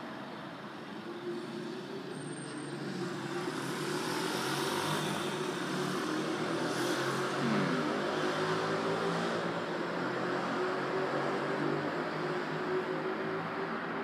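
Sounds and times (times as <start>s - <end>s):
vehicle noise: 0.0s - 14.0s.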